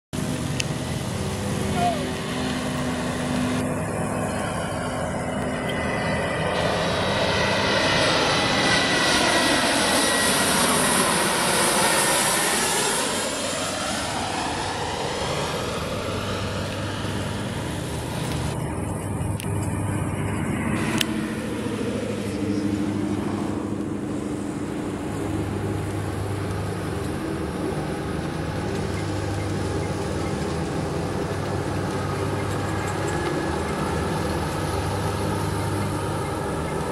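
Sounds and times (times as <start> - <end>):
jet airliner whining overhead: 0.2 - 36.9
jet rumble with low hum: 0.2 - 36.9.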